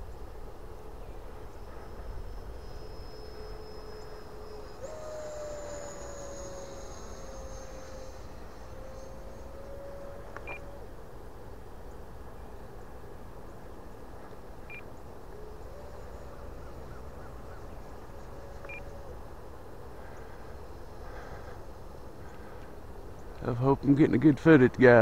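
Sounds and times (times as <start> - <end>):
electric ducted fan whine: 0.0 - 25.0.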